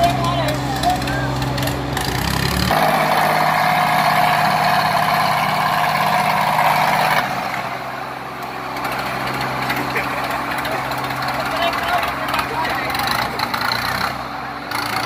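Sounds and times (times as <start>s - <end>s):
tractor diesel engines under load: 0.0s - 15.0s.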